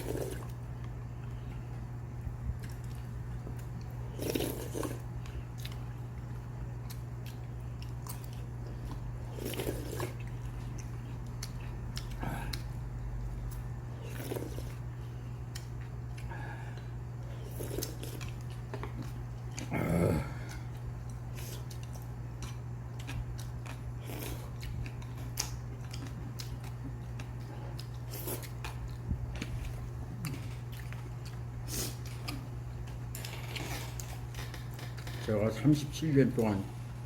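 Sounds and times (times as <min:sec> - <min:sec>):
person chewing and crunching food: 0:00.0 - 0:37.0
steady low hum: 0:00.0 - 0:37.0.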